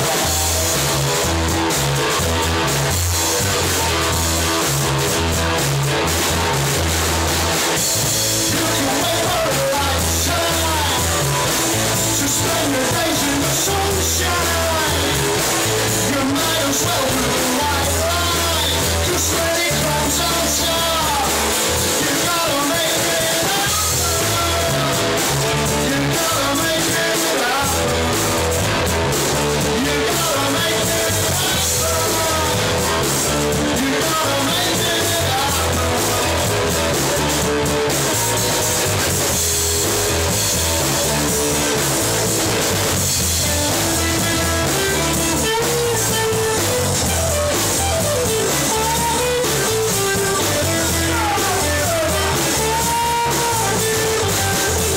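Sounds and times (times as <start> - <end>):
loud rock music: 0.0 - 54.9.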